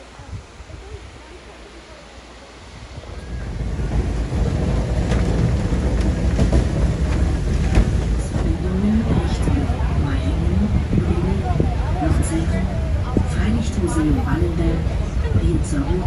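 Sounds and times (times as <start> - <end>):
wind on microphone: 0.0 - 1.3, 2.5 - 16.0
vehicle travel rumble: 0.0 - 16.0.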